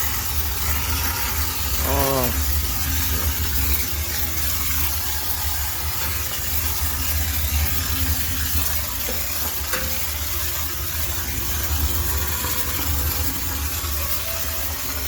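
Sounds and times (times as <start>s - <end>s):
steam cleaner hissing: 0.0s - 15.0s.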